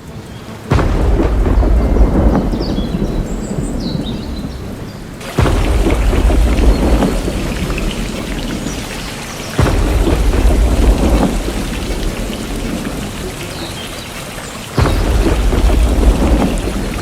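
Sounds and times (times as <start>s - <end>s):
rain falling: 0.0s - 17.0s
thunder claps and rumble: 0.0s - 17.0s.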